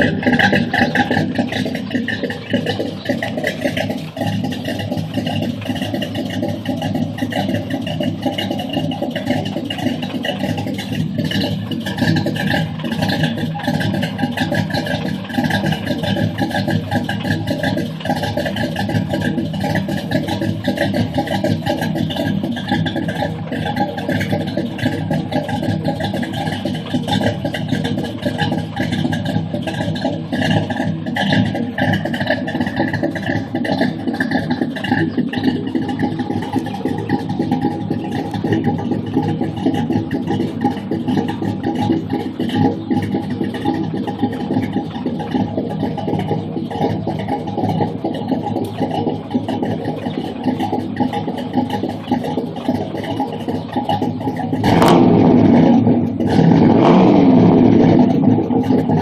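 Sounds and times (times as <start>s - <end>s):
lumpy car engine idling: 0.0s - 59.0s.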